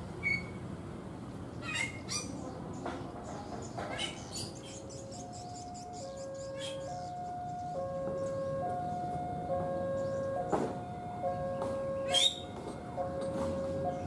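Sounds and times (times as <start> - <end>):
outdoor background hum: 0.0 - 14.0
birds chirping: 1.5 - 14.0.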